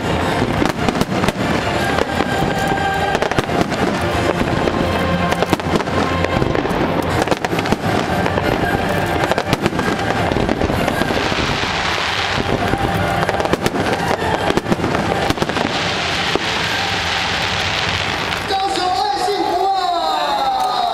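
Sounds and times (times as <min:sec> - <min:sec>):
fireworks hissing: 0:00.0 - 0:19.7
fireworks exploding: 0:00.0 - 0:20.8.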